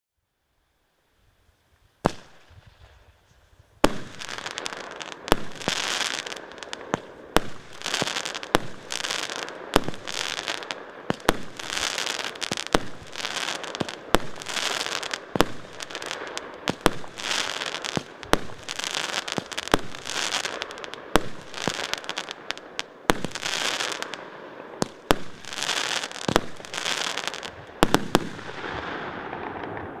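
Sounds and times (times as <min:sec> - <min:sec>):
crackling fireworks bursts: 0:01.9 - 0:30.0.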